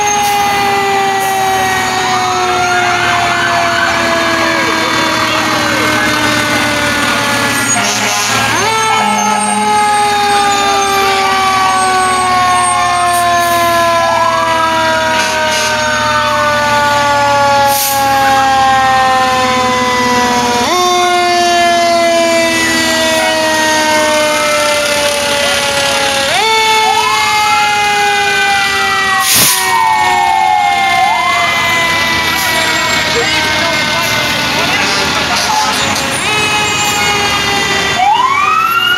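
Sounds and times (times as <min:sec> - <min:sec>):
faint rising and falling sirens: 0:00.0 - 0:38.9
fire engine siren: 0:00.0 - 0:38.9.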